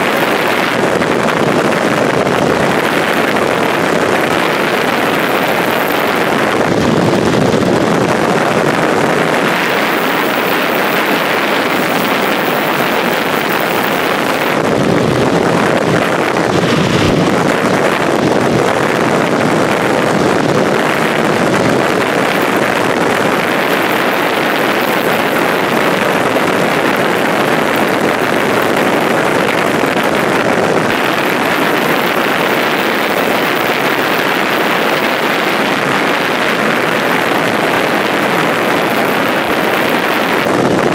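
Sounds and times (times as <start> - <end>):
road and motor noise: 0.0 - 40.9
wind on microphone: 0.0 - 40.9.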